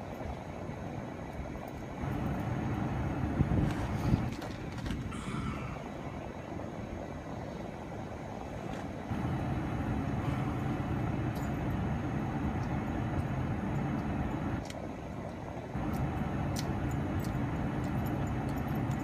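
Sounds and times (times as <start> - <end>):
low vehicle rumble: 1.9 - 19.0.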